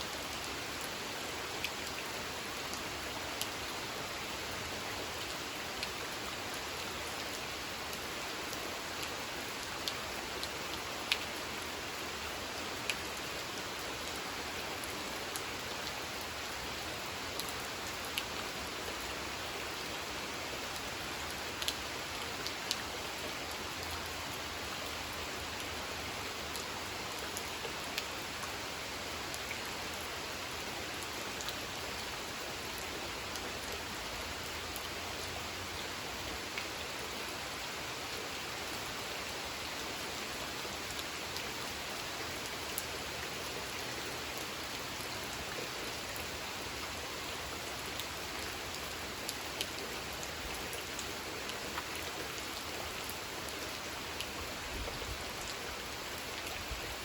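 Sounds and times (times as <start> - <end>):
rain falling on water: 0.0 - 57.0.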